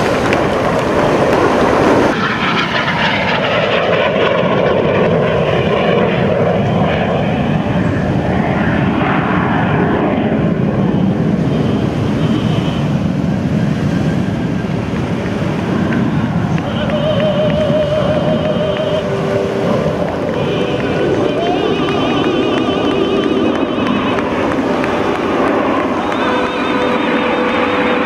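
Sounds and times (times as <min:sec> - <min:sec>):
jets flying overhead: 0:00.0 - 0:28.0.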